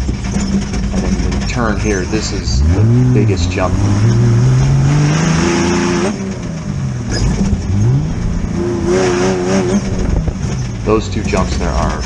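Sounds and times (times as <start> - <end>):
buggy engine pulling hard: 0.0 - 12.0.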